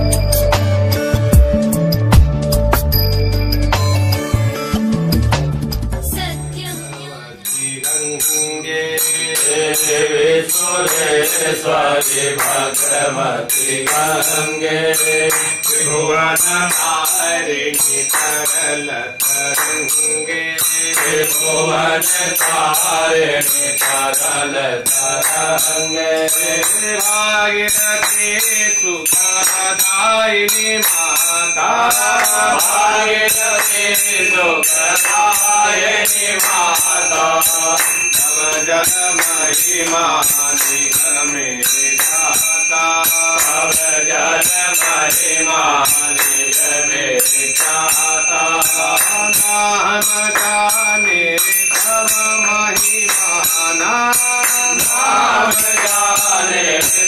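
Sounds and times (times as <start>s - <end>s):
steady percussive beat: 0.0s - 8.6s, 9.3s - 57.0s
chanted singing: 6.1s - 57.0s.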